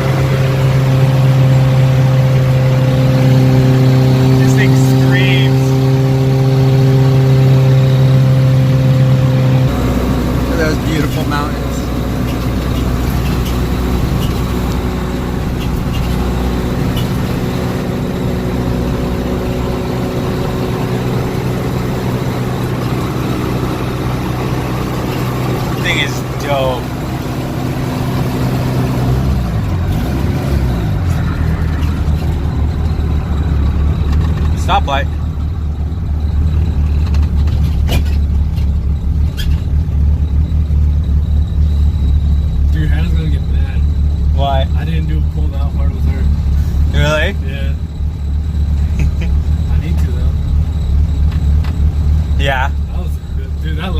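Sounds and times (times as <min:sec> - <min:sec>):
car engine drone: 0:00.0 - 0:53.9
road noise: 0:00.0 - 0:53.9.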